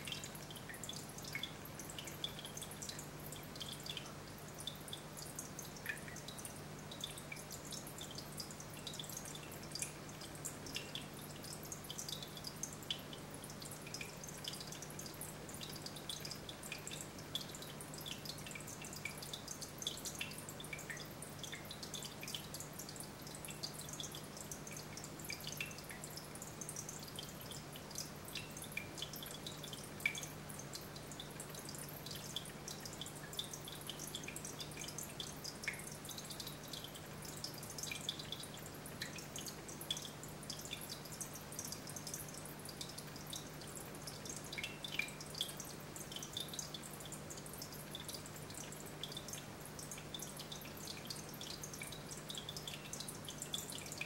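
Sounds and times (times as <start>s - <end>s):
aquarium water trickling: 0.0s - 54.0s
water drips and splashes: 0.0s - 54.0s.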